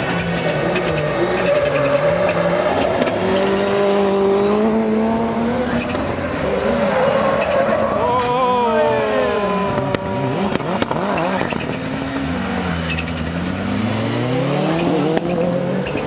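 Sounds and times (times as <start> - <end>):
rally car engines revving: 0.0 - 16.0.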